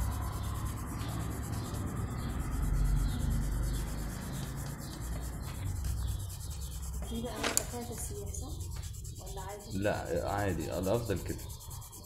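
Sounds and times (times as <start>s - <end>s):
pencil rubbing on paper: 0.0s - 12.0s.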